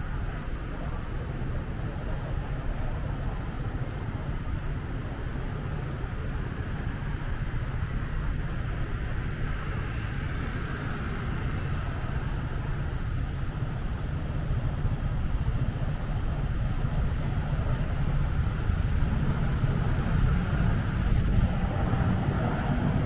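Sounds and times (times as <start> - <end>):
low rumble of city traffic: 0.0 - 23.0.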